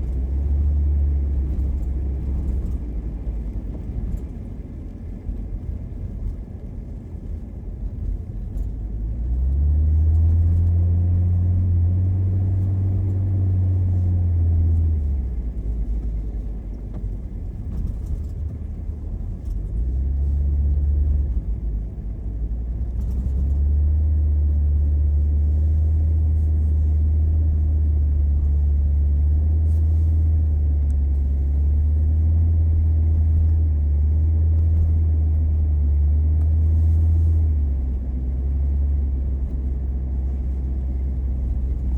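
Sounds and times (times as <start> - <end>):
car engine and road drone: 0.0 - 41.9.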